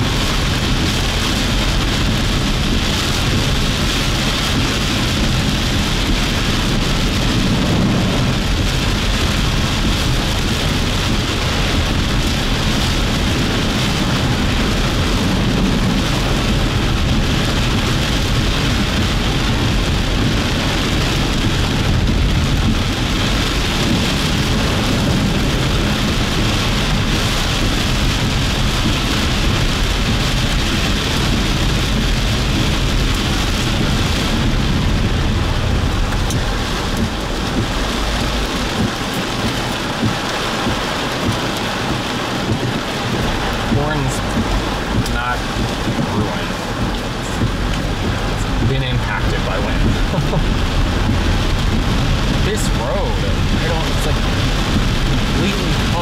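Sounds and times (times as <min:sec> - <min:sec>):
heavy rain falling: 0:00.0 - 0:56.0
low rumble: 0:00.0 - 0:56.0.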